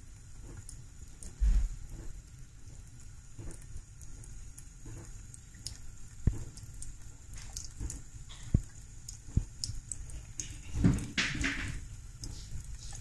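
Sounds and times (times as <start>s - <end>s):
cat licking water: 0.1s - 13.0s
tap water pattering into sink: 0.1s - 13.0s.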